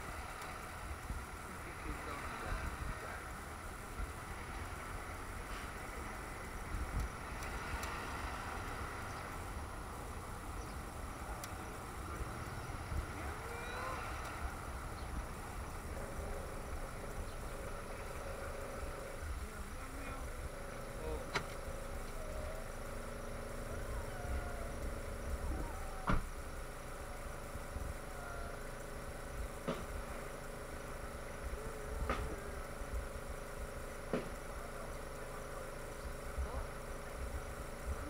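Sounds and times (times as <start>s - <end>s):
car engine rumbling: 0.0s - 38.0s.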